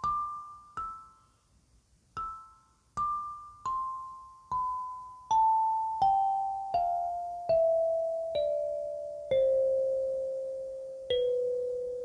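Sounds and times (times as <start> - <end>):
kalimba notes plucked: 2.2 - 12.0.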